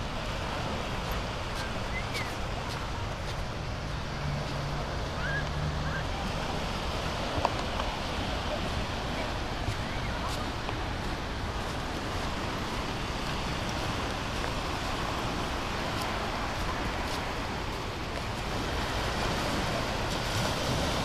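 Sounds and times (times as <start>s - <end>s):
ocean surf washing onto beach: 0.0s - 21.0s
wind: 0.0s - 21.0s.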